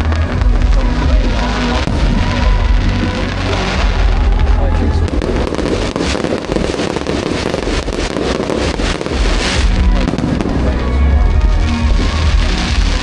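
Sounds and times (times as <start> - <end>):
fireworks crackling and booming: 0.0 - 13.0
music playing: 0.0 - 13.0.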